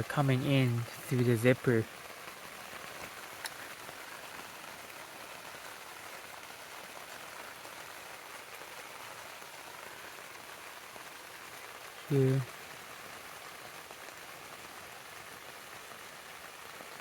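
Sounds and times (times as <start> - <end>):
rain on a tent: 0.0 - 17.0.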